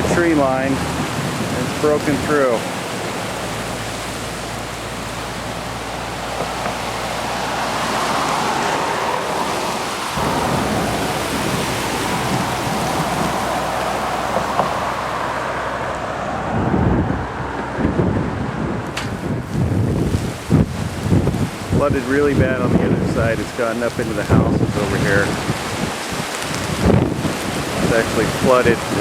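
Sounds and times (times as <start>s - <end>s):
flooding river rushing: 0.0s - 29.0s
wind buffeting microphone: 0.0s - 29.0s.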